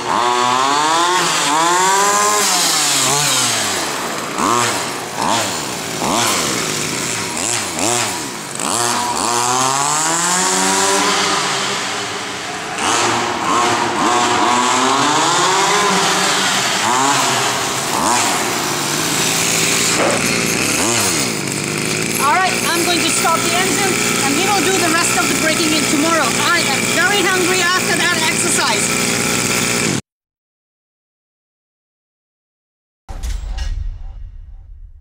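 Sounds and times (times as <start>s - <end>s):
two-stroke engine revving: 0.0s - 30.0s.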